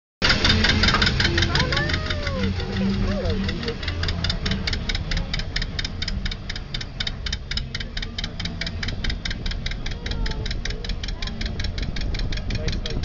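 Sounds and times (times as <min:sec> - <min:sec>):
diesel locomotive engine rumbling: 0:00.2 - 0:13.0
fast ticking clatter: 0:00.2 - 0:13.0.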